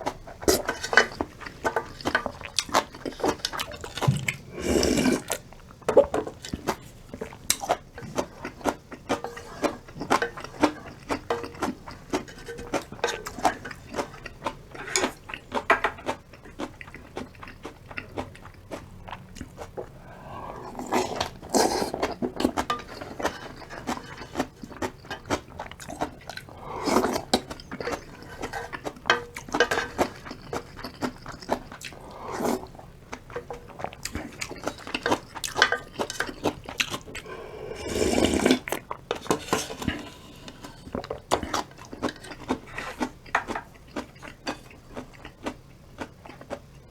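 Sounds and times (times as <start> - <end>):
chewing and biting noodles: 0.0 - 46.8.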